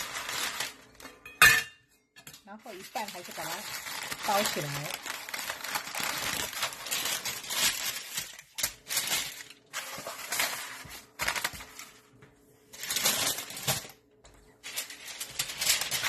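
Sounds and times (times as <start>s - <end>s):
baking paper crinkling: 0.0s - 1.2s, 2.4s - 16.0s.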